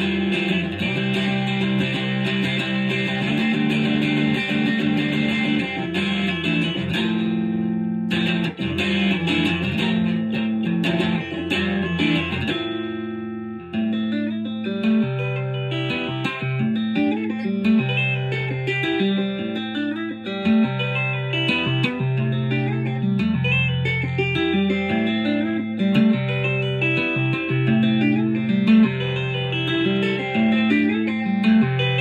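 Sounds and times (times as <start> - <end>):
electric guitar tapping riff: 0.0 - 32.0.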